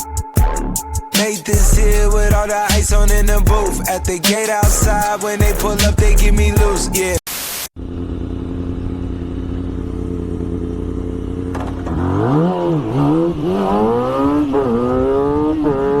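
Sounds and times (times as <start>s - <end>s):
engine idling and revving: 1.6s - 7.1s, 7.8s - 16.0s.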